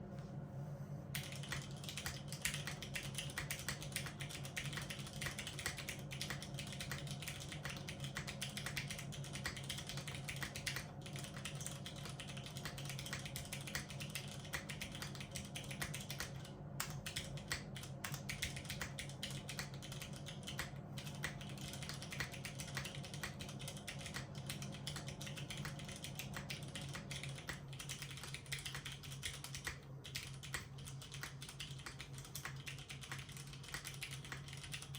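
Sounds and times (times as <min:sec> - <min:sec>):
steady low hum: 0:00.0 - 0:34.9
mechanical keyboard typing: 0:01.2 - 0:34.9.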